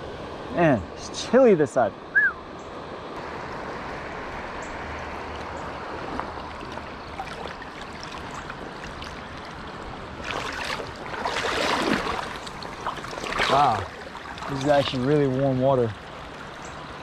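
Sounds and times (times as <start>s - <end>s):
creek water running: 0.0s - 17.0s
water splashing and sloshing: 2.8s - 17.0s.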